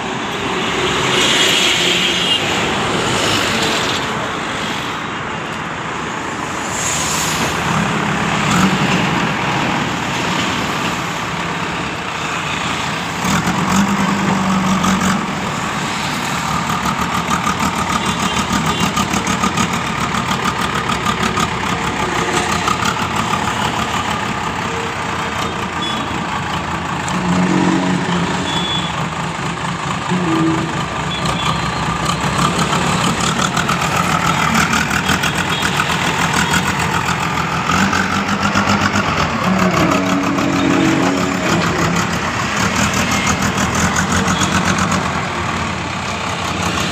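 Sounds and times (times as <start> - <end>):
diesel engine under load: 0.0 - 46.9.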